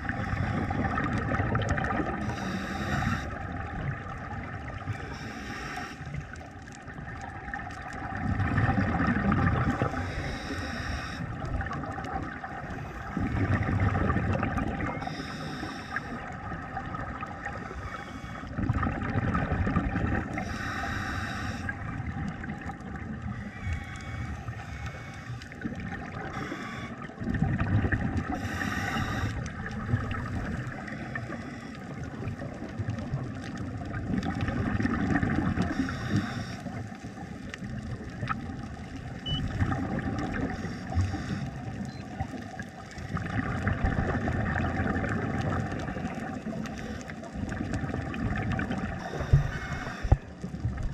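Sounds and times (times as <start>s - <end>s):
bubbles gurgling underwater: 0.0s - 5.2s, 6.0s - 10.5s, 11.2s - 15.3s, 16.0s - 17.9s, 18.5s - 20.6s, 21.7s - 50.9s
underwater water noise: 0.0s - 50.9s.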